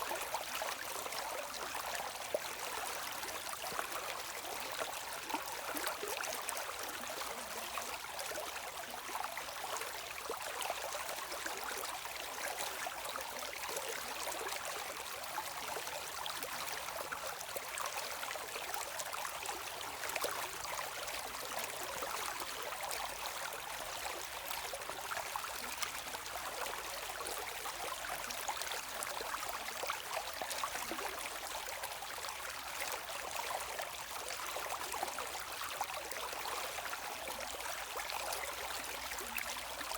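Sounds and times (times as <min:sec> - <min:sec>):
shallow stream trickling: 0:00.0 - 0:39.9.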